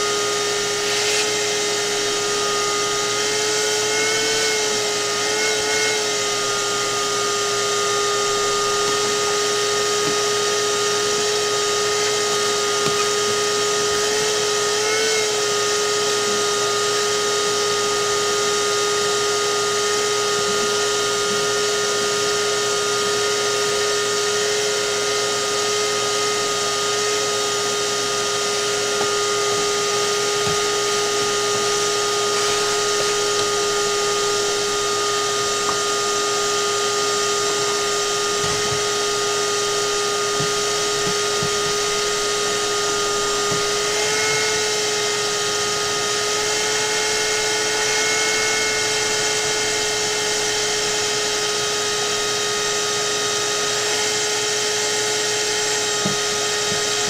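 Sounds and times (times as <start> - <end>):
small electric motor whining: 0.0 - 57.0.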